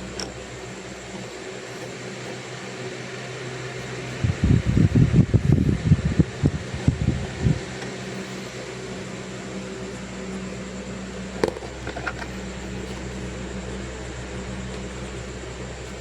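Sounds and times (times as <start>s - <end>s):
electric fan hum: 0.0s - 16.0s.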